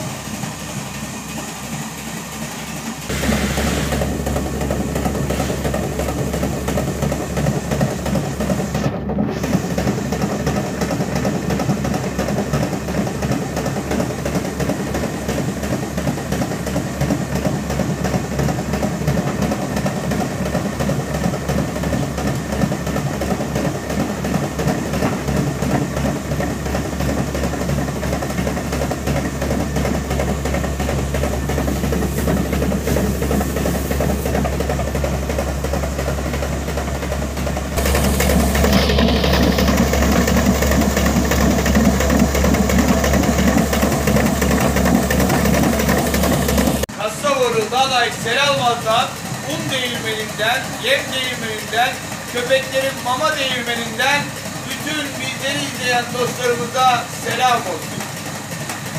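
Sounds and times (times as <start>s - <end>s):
feed mill grinding grain: 0.0s - 58.9s.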